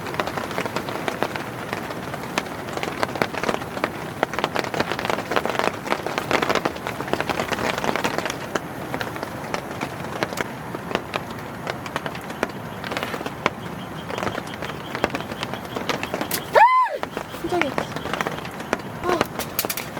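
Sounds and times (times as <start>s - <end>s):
heavy rain on a tent: 0.0s - 19.9s.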